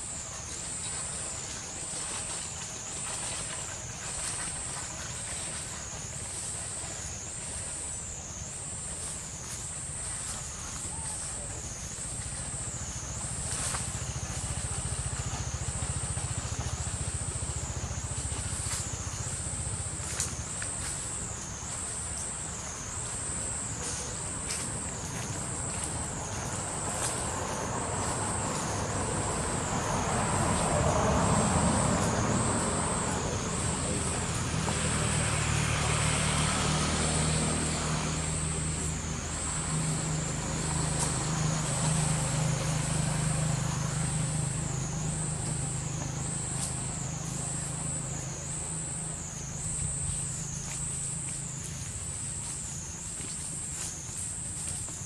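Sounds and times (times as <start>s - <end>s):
pulsing insect drone: 0.0s - 55.0s
vehicle engine running: 0.0s - 55.0s.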